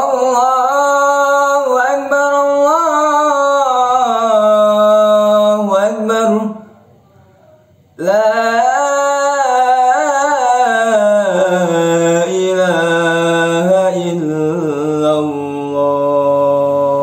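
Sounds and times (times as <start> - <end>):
man singing call to prayer: 0.0 - 6.8, 8.0 - 17.0.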